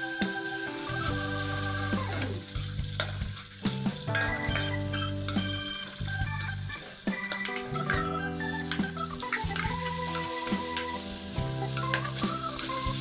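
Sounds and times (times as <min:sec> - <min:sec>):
background music with held notes: 0:00.0 - 0:13.0
meat sizzling in a pan: 0:00.0 - 0:13.0.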